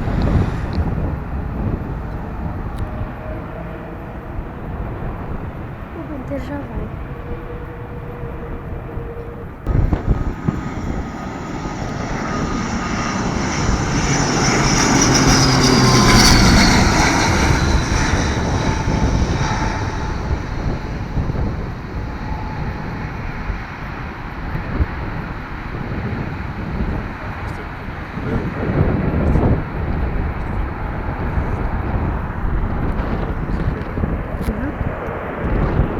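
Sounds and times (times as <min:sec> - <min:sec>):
airliner engines passing: 0:00.0 - 0:35.9
wind buffeting microphone: 0:00.0 - 0:35.9.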